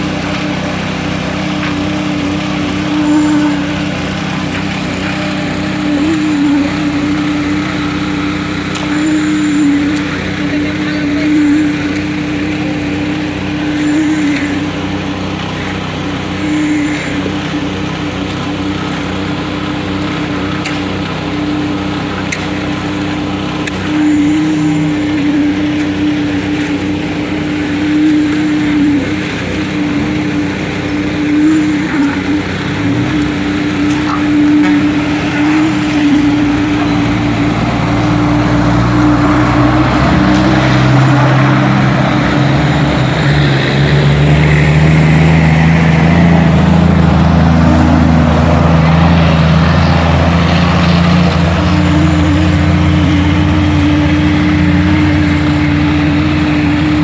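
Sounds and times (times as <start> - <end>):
heavy truck engine humming: 0.0 - 57.0.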